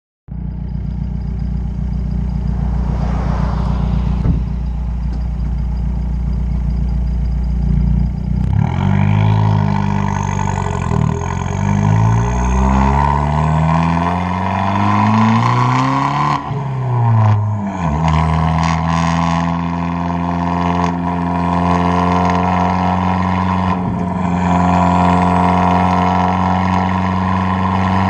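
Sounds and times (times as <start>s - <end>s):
car exhaust revving: 0.3s - 28.0s.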